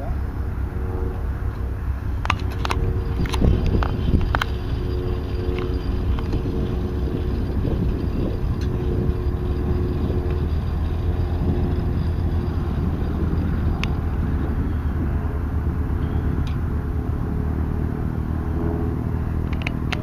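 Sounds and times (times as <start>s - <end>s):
tow tug motor humming: 0.0s - 20.0s.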